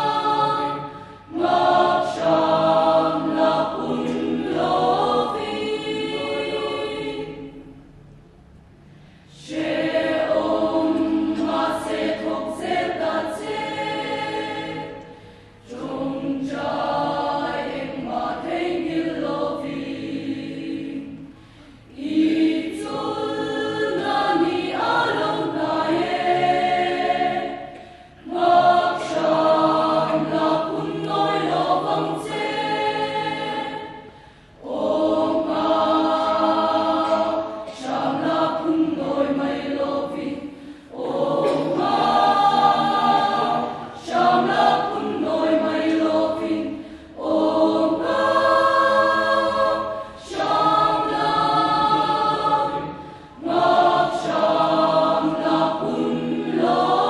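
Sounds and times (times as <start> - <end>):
mixed choir singing a hymn: 0.0 - 7.9, 9.2 - 57.0.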